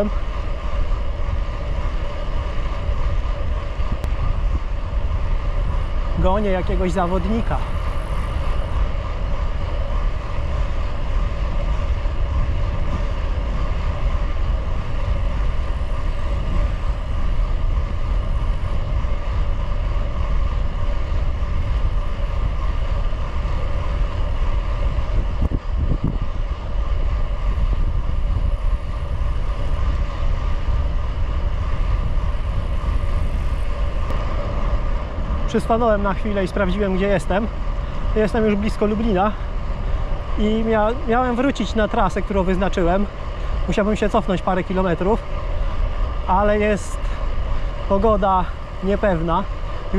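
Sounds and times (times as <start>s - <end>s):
steady hum: 0.0s - 49.9s
wind rushing over microphone: 0.0s - 49.9s.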